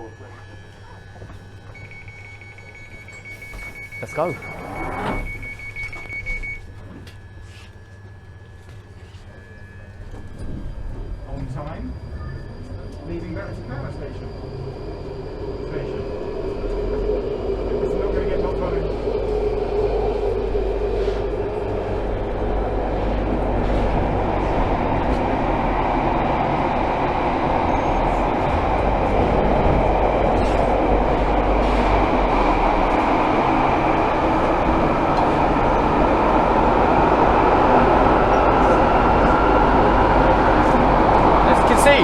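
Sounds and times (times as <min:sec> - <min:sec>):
train motor whine: 0:00.0 - 0:42.0
train running through tunnel: 0:00.0 - 0:42.0.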